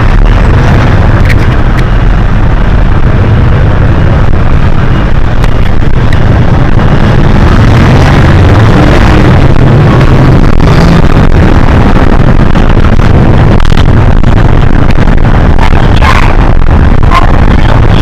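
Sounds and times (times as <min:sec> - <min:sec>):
bus diesel engine rumble: 0:00.0 - 0:18.0.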